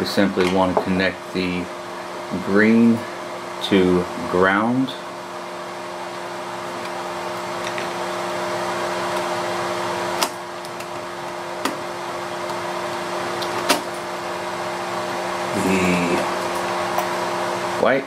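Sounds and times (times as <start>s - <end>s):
mechanical background hum: 0.0s - 18.0s.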